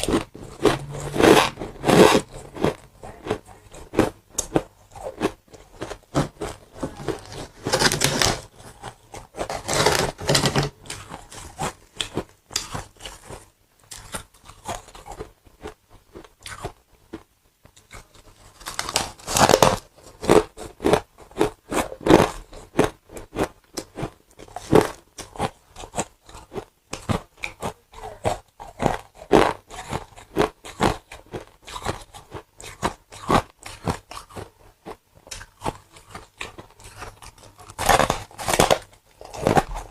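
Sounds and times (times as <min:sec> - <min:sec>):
chewing crunches: 0:00.0 - 0:39.9.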